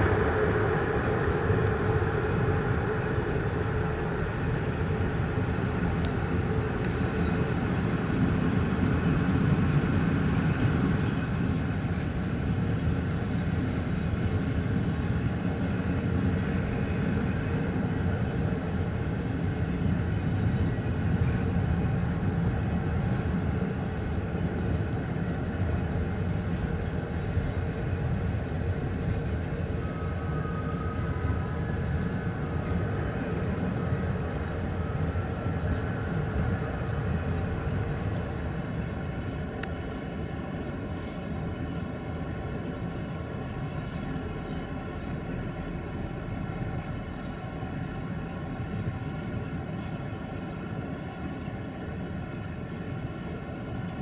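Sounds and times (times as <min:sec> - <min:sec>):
faint steady tones: 0:00.0 - 0:54.0
train coach rumbling on rails: 0:00.0 - 0:54.0.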